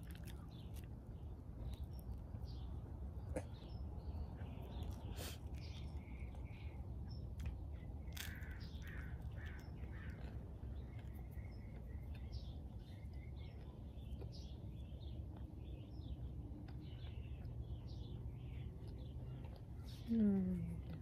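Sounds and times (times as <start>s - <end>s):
birds chirping and calling: 0.2s - 21.0s.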